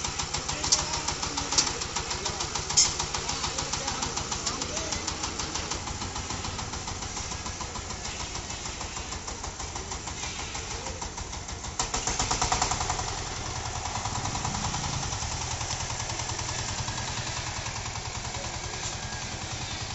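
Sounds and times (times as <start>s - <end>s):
diesel engine chugging: 0.0s - 19.9s.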